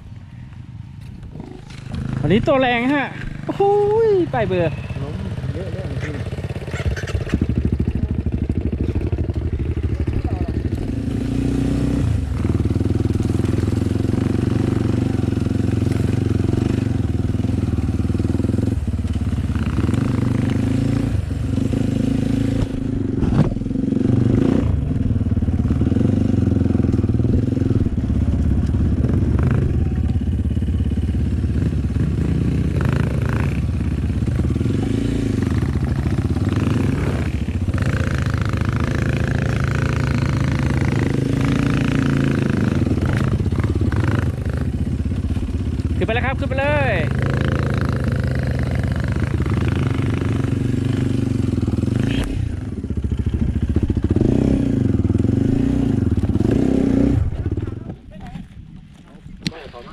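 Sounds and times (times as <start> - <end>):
dirt bike engine running: 0.0 - 59.3.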